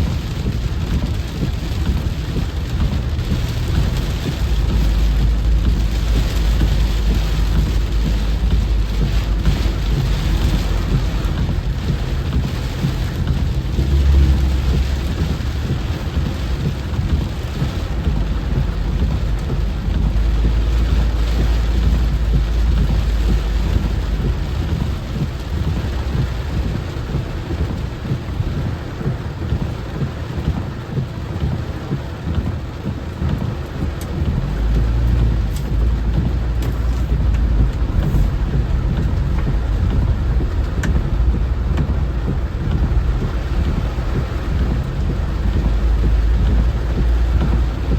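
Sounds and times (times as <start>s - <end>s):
heavy rain falling: 0.0s - 47.9s
thunder rumbling: 0.0s - 47.9s.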